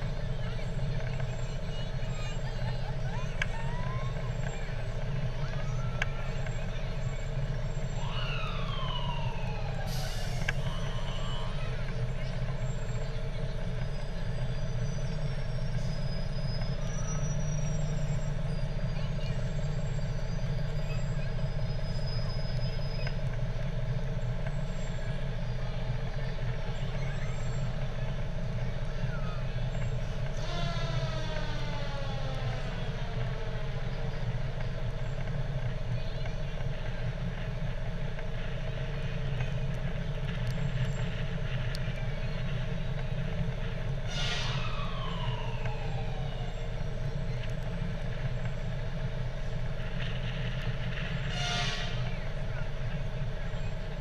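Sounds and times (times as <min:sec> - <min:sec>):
faint high-pitched squeals: 0:00.0 - 0:54.0
fire truck engine rumbling: 0:00.0 - 0:54.0.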